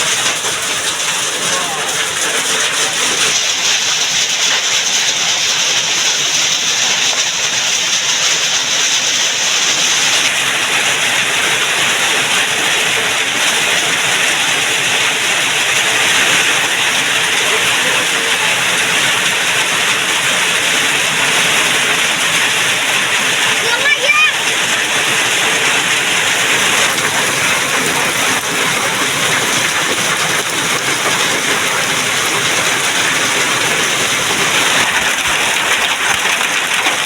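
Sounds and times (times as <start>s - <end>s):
rushing water: 0.0s - 37.0s.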